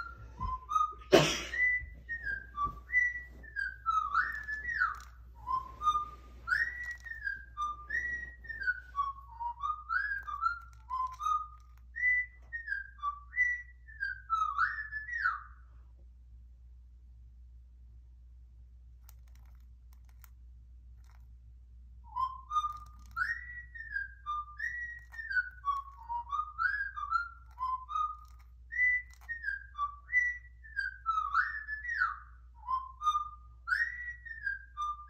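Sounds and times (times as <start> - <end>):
cockatiel whistling a tune: 0.0 - 15.7, 22.0 - 35.0.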